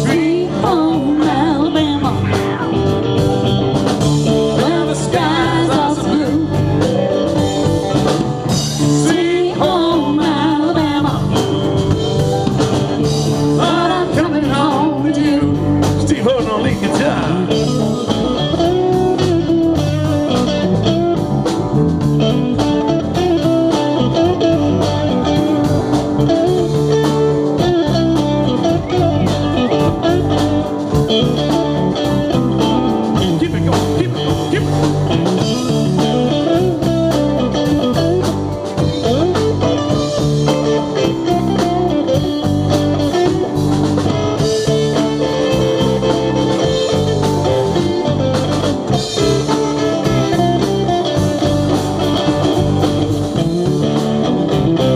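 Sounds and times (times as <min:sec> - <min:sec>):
drums: 0:00.0 - 0:54.9
electric guitar lead line: 0:00.0 - 0:54.9.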